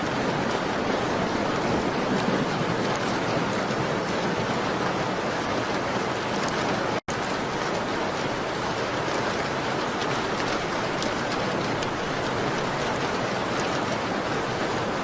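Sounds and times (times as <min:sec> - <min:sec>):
rain on a window: 0:00.0 - 0:15.0.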